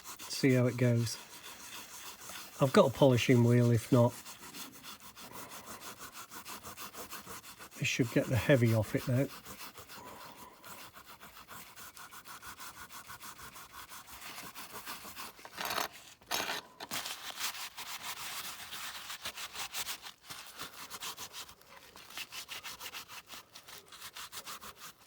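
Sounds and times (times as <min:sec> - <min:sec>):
paper rubbing on metal: 0:00.0 - 0:25.0.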